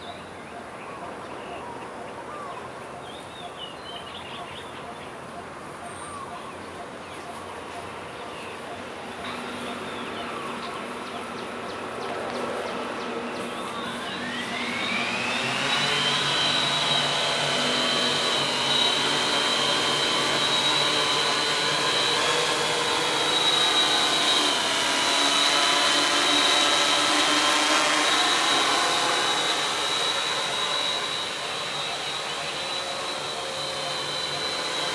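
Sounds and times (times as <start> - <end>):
drone propellers buzzing whine: 0.0 - 34.9.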